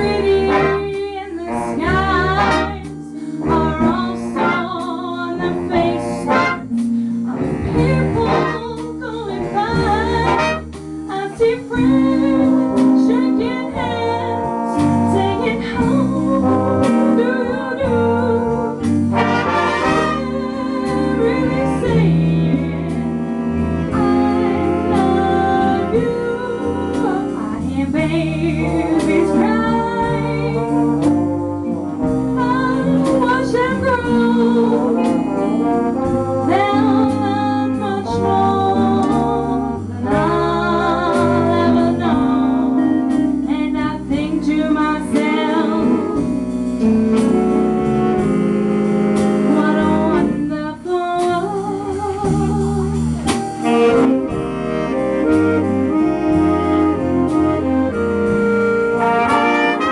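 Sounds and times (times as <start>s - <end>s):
brass and saxophones sustained chords: 0.0s - 59.9s
jazz band playing a slow ballad: 0.0s - 59.9s.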